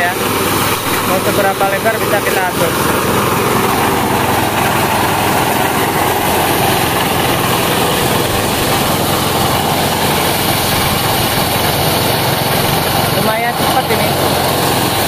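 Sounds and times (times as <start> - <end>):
rice thresher machine running: 0.0 - 15.0.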